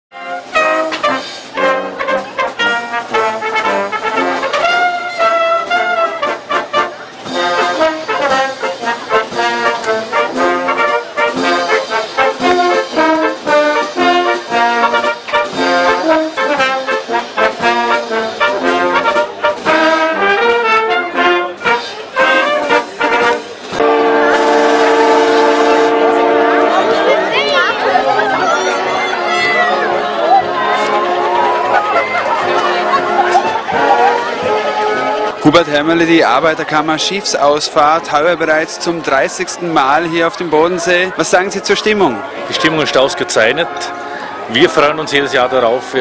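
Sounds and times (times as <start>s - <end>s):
long held brass tone: 0.1s - 35.5s, 42.6s - 44.6s
brass band playing: 0.1s - 46.0s.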